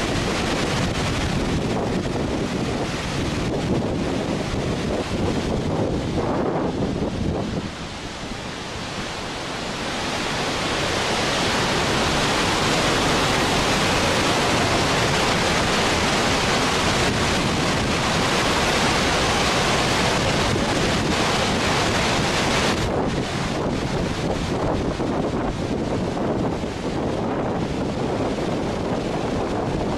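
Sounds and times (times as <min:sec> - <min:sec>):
floodwater rushing over weir: 0:00.0 - 0:29.9
wind buffeting microphone: 0:00.0 - 0:29.9.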